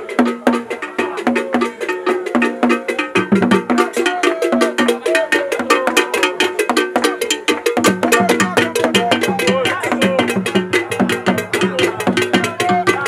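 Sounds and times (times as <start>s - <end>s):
pitched melodic line: 0.0s - 13.0s
rapid drum strikes: 0.0s - 13.0s
bell or wood block strikes: 0.2s - 13.0s.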